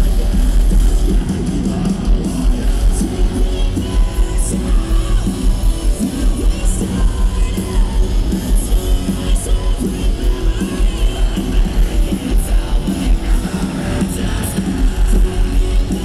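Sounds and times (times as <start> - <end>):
bass and drums: 0.0 - 16.0
distorted electric guitars: 0.0 - 16.0
person singing: 1.0 - 16.0.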